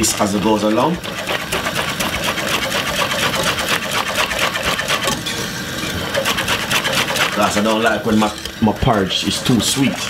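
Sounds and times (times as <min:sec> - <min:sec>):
whisk rattling in metal pot: 0:00.0 - 0:10.0.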